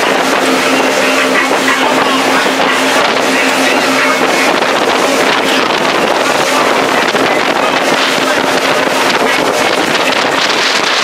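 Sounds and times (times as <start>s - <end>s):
boat engine running: 0.0s - 11.0s
water noise: 0.0s - 11.0s
wind buffeting microphone: 0.0s - 11.0s.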